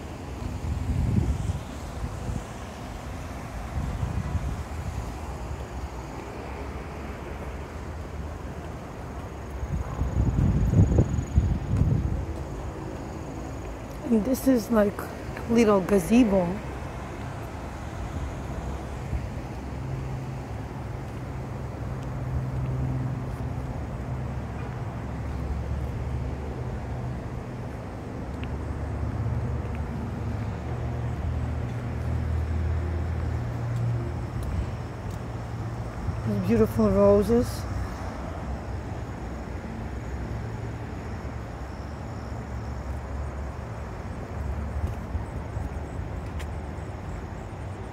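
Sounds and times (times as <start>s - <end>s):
urban background rumble: 0.0s - 47.9s.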